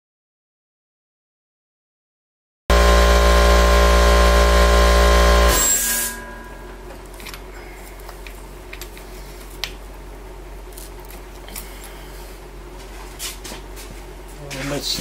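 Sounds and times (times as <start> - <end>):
steady low hum: 2.7 - 15.0.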